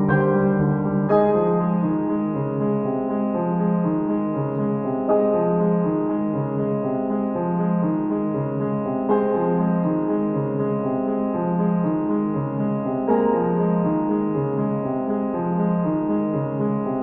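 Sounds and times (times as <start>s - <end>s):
gentle piano notes: 0.0s - 17.0s.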